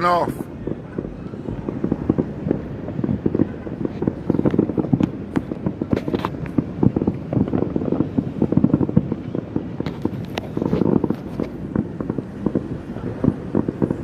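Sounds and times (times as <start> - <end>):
fireworks and firecrackers banging: 0.0 - 14.0.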